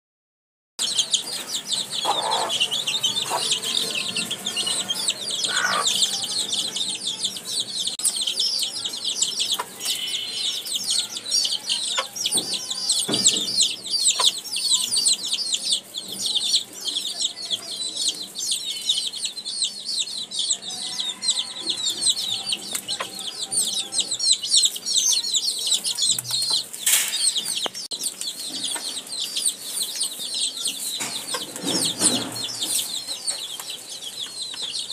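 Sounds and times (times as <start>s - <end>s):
hen clucking: 0.8s - 16.7s, 18.0s - 34.9s
baby chicks peeping: 0.8s - 34.9s.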